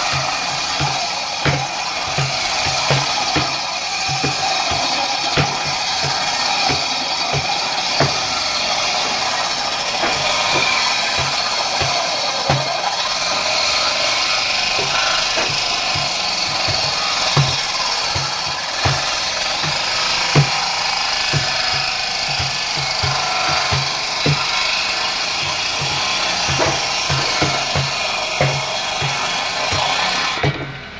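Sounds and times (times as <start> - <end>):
table saw cutting wood: 0.0 - 30.9.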